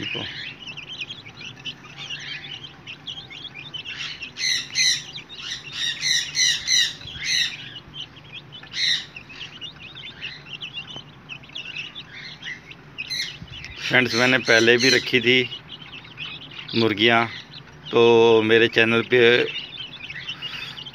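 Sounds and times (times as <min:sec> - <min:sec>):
chicks peeping and cheeping: 0:00.0 - 0:20.9.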